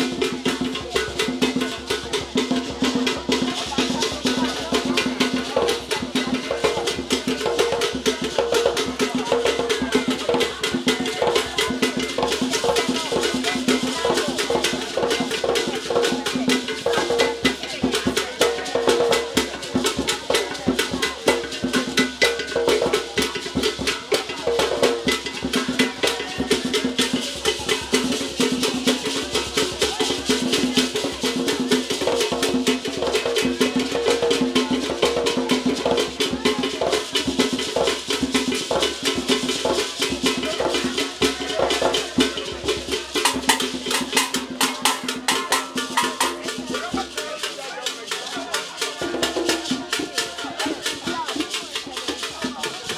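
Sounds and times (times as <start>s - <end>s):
hand drums playing: 0.0s - 52.9s.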